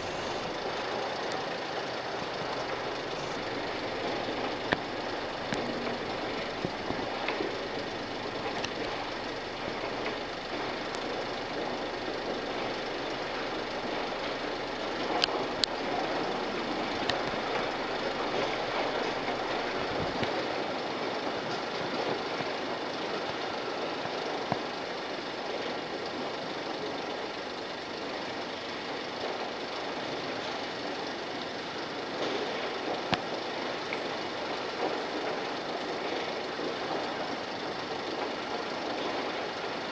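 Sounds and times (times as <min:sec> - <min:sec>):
distant engines and machinery: 0:00.0 - 0:39.9
faint clicks: 0:00.0 - 0:39.9.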